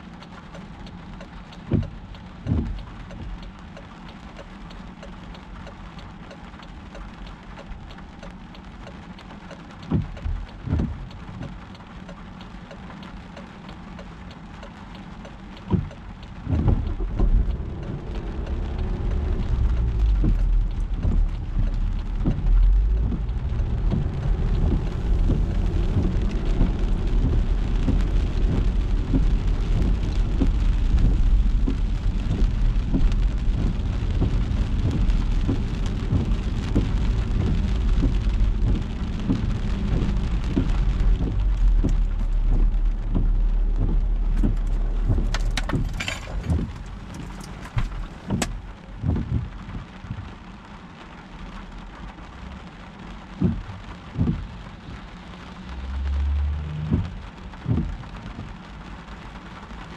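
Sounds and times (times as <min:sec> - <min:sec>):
low rumble of driving: 0:00.0 - 0:59.9
rain pattering on a car: 0:00.0 - 0:59.9.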